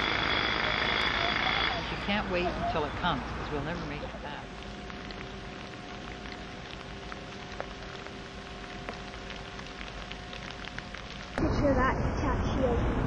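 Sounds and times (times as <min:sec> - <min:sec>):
light rain pattering: 0:00.0 - 0:12.8
faint hum: 0:00.0 - 0:13.0.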